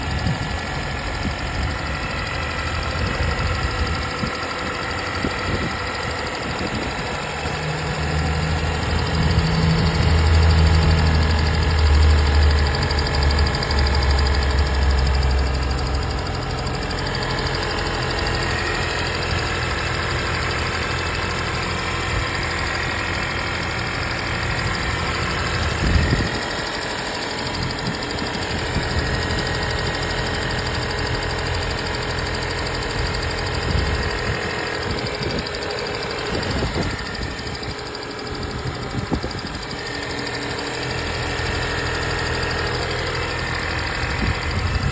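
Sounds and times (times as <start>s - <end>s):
car engine running with ticking: 0.0s - 44.9s
deep low hum: 5.4s - 29.2s, 32.4s - 44.9s.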